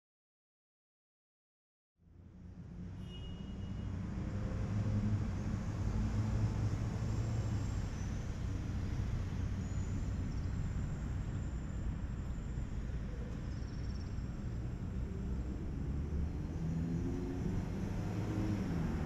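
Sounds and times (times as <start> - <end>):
city traffic rumble: 2.0 - 19.0.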